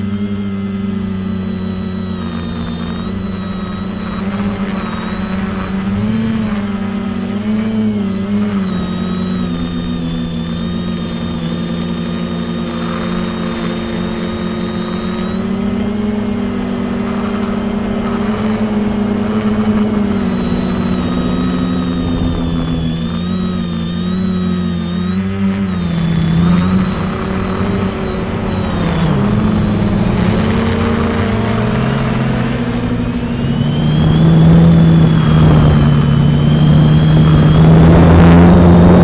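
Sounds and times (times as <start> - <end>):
quadcopter propellers whirring: 0.0 - 39.0.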